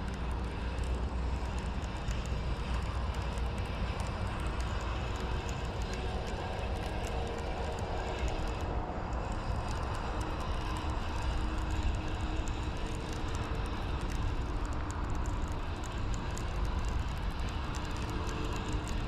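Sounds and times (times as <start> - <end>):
light clicks: 0.0 - 19.0
low outdoor rumble: 0.0 - 19.0.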